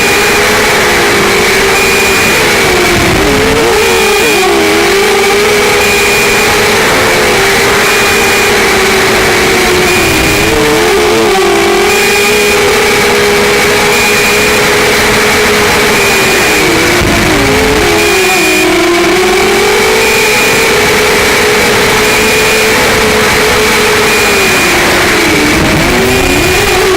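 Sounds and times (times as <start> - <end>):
quadcopter motors whining: 0.0 - 26.9.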